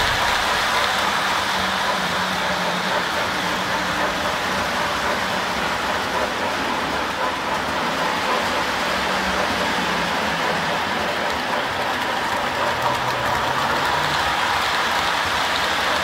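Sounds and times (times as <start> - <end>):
metal wheels rolling on rail: 0.0 - 16.0.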